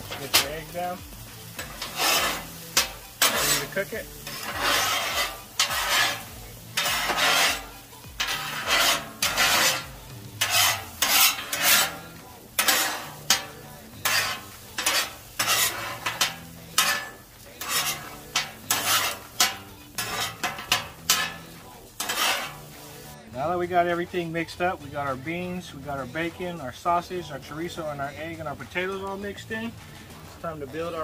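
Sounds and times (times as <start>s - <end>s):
eggs sizzling: 0.0s - 31.0s
metal spatulas scraping on griddle: 0.0s - 31.0s.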